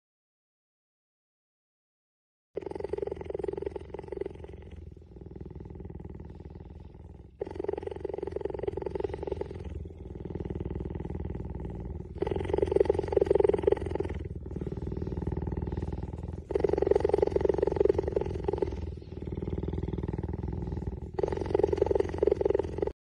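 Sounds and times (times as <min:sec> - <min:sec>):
cheetah purring: 0:02.6 - 0:23.0.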